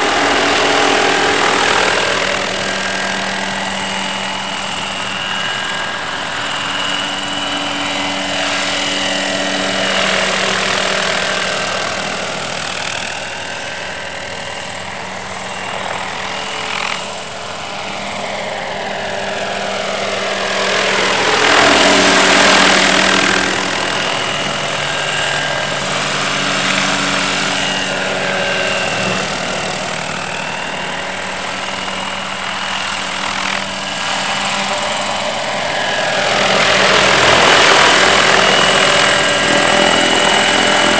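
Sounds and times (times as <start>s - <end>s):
model helicopter rotor whine: 0.0s - 40.9s.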